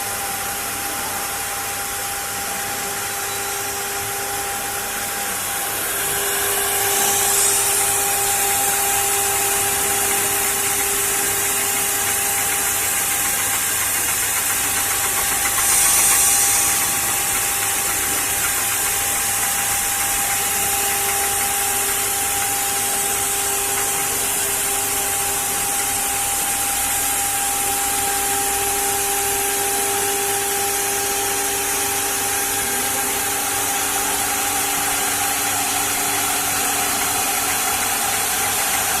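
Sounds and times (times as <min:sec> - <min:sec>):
router spindle whining: 0:02.3 - 0:39.0.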